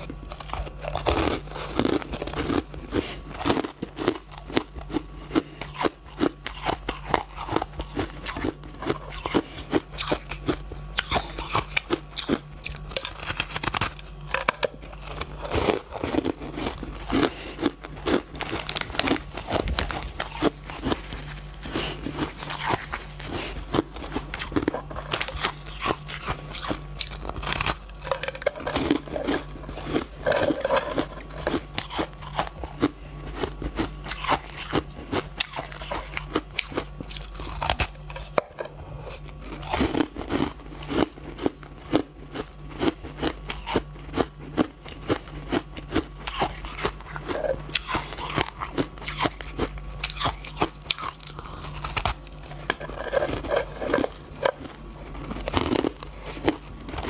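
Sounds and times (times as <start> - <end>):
chewing shaved ice: 0.0 - 57.0.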